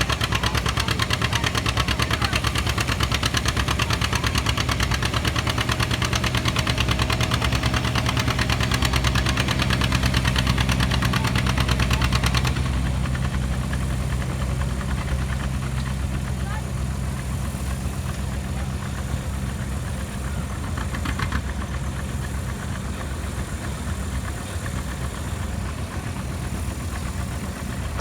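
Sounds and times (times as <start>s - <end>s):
tractor engine chugging: 0.0s - 28.0s.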